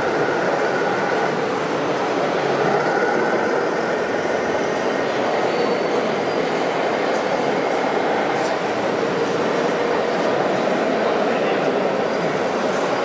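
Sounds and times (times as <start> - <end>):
busy exhibition hall din: 0.0 - 13.0.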